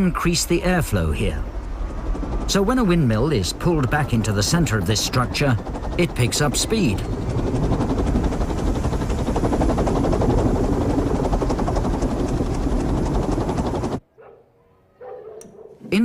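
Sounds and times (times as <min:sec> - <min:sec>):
wind turbine whirring: 0:00.0 - 0:14.0.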